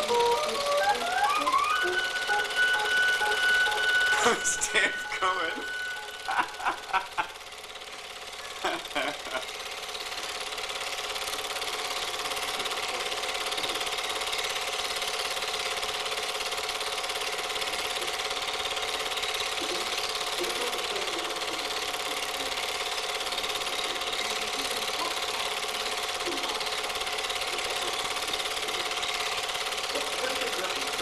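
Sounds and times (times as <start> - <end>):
projector hum: 0.0 - 14.8, 17.9 - 31.0
film projector clattering: 0.0 - 31.0.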